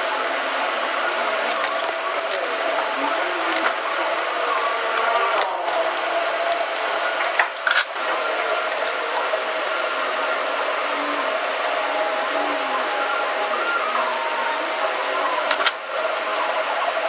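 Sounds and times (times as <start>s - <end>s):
electric motor and fan whirring: 0.0s - 17.0s.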